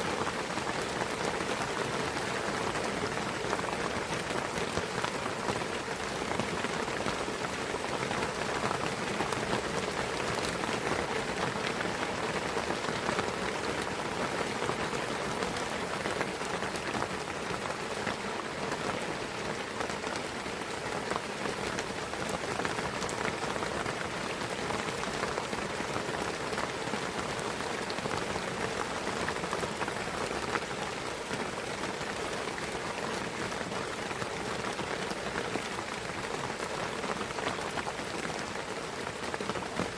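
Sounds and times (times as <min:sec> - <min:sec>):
steady rain on foliage: 0:00.0 - 0:39.9.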